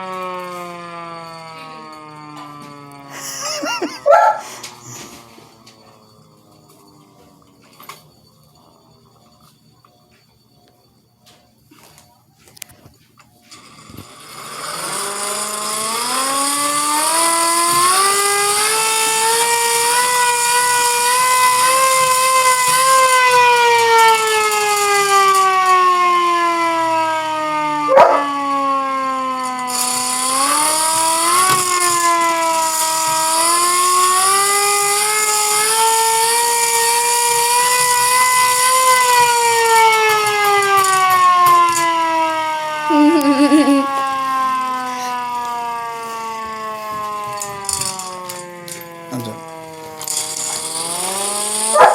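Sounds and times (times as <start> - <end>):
tornado siren wailing: 0.0 - 9.9, 13.5 - 51.9.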